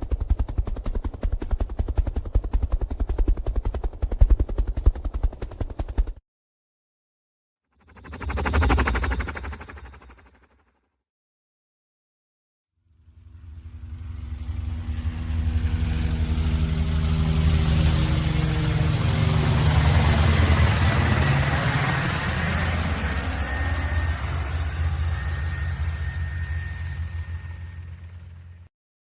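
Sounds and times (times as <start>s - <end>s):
helicopter flying past: 0.0s - 6.2s, 7.7s - 10.8s, 13.0s - 28.7s.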